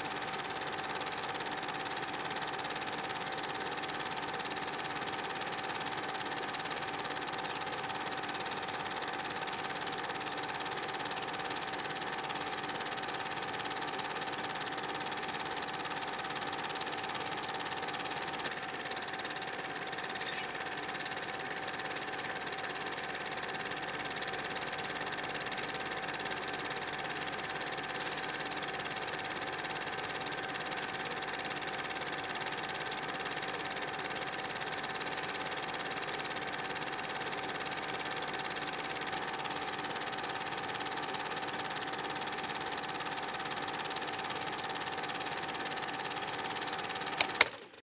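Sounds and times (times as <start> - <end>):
film projector whirring: 0.0 - 47.8.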